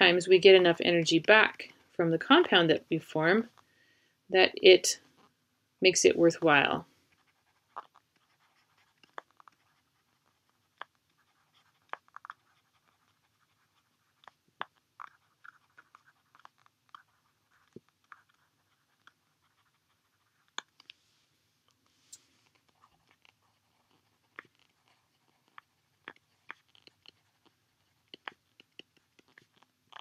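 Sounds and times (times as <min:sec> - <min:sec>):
stylus writing on tablet screen: 0:04.4 - 0:20.8, 0:22.1 - 0:30.0.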